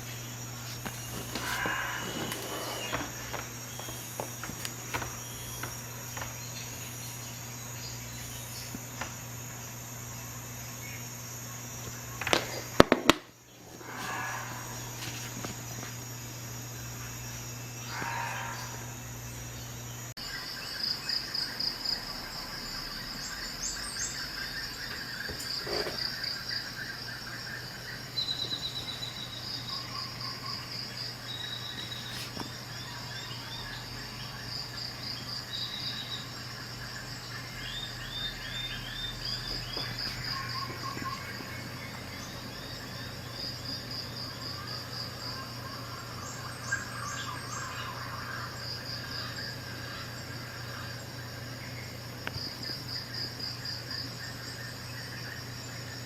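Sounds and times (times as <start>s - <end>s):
birds chirping: 0.0s - 56.0s
crickets chirping: 0.0s - 56.0s
steady low hum: 0.0s - 56.0s.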